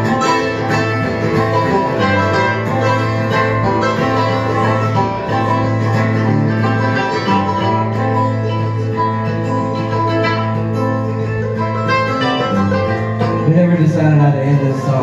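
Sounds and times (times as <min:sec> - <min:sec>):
acoustic guitar strumming: 0:00.0 - 0:15.0
banjo picking: 0:00.0 - 0:15.0
string band playing bluegrass: 0:00.0 - 0:15.0.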